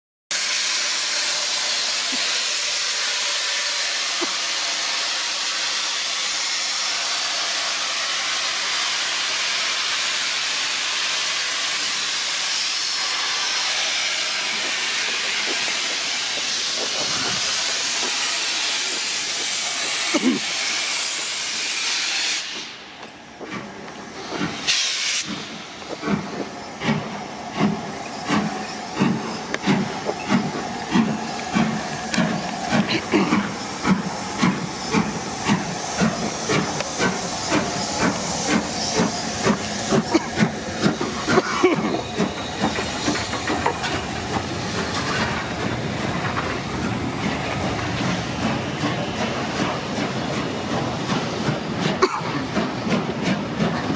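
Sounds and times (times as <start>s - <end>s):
steam locomotive chuffing: 0.3s - 53.9s
steam locomotive hissing steam: 0.3s - 53.9s.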